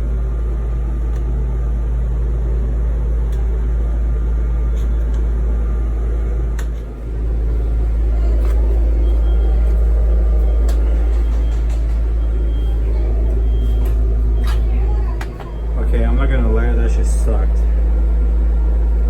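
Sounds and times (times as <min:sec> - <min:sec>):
low machinery rumble: 0:00.0 - 0:19.0.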